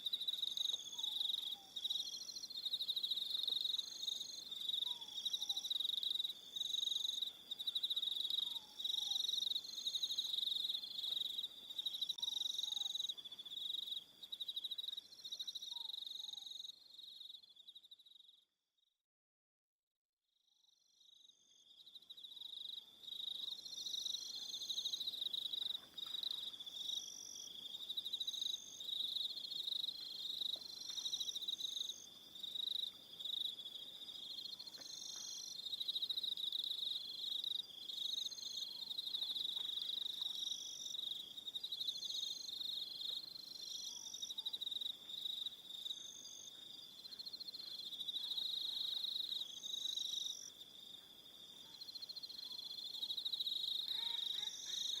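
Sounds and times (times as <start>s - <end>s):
crickets chirping: 0.0s - 18.4s, 21.0s - 55.0s.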